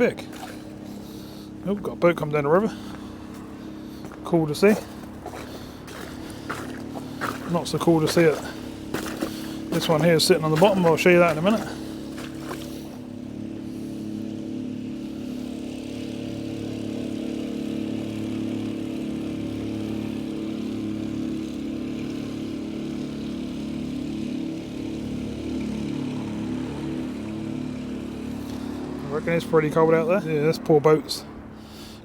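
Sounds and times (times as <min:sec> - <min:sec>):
motorboat engine running: 0:00.0 - 0:32.0.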